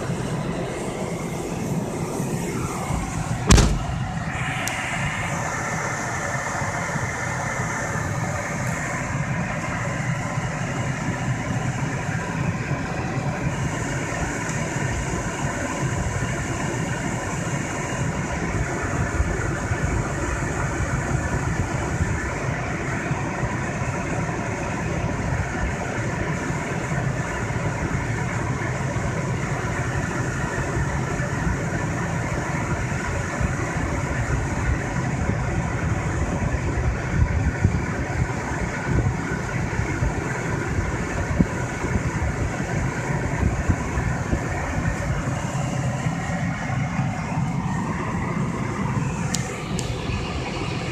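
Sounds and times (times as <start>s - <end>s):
car engine hum: 0.0s - 50.9s.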